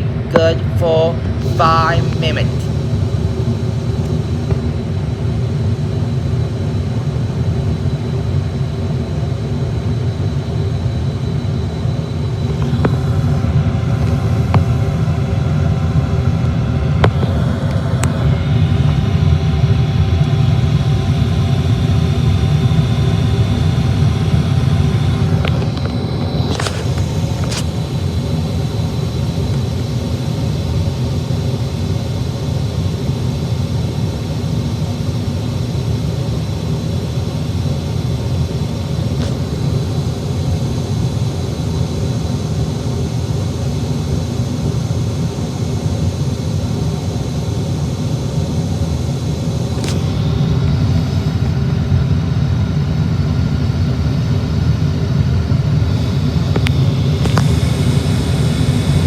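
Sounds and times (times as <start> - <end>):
high steady whine: 0.0 - 59.0.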